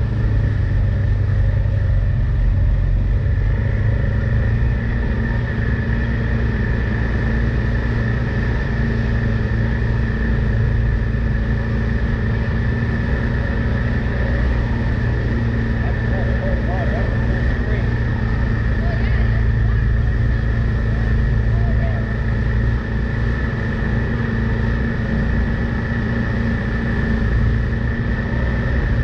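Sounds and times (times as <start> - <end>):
high-pitched whine: 0.0 - 29.0
vehicle engine droning: 0.0 - 29.0.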